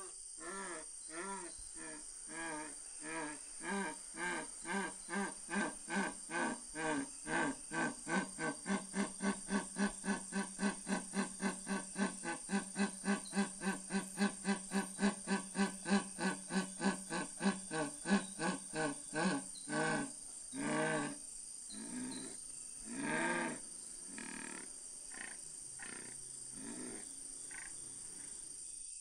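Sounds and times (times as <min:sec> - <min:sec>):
wild animal calling: 0:00.0 - 0:28.4
steady high hiss: 0:00.0 - 0:29.0.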